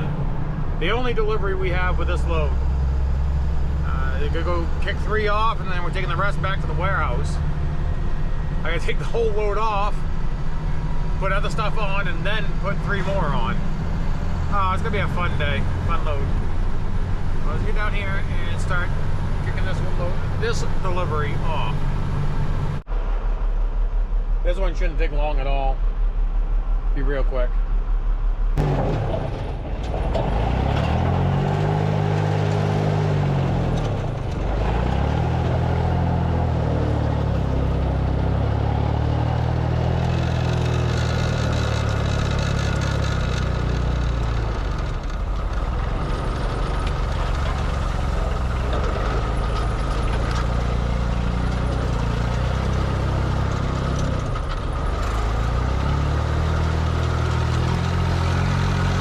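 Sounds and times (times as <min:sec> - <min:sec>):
heavy vehicle engine running: 0:00.0 - 0:24.4, 0:27.6 - 0:59.0.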